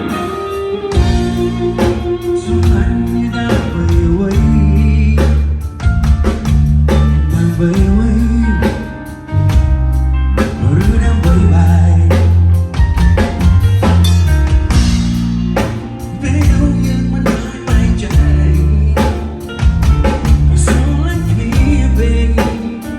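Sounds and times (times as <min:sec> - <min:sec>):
live band playing pop: 0:00.0 - 0:22.9.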